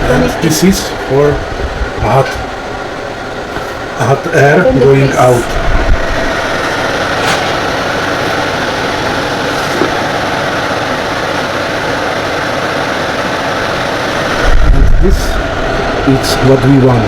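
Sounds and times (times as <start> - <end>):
air conditioner humming and blowing: 0.0 - 17.0.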